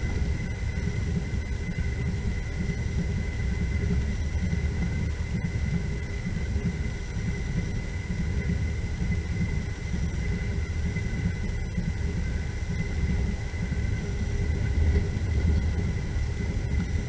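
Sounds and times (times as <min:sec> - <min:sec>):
faint high whine: 0:00.0 - 0:17.0
train rumble: 0:00.0 - 0:17.0.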